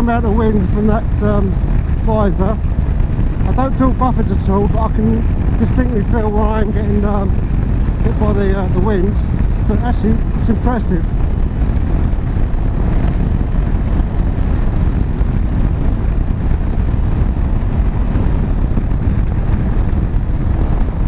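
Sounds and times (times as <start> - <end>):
motorcycle engine cruising: 0.0 - 21.0
wind rushing: 0.0 - 21.0.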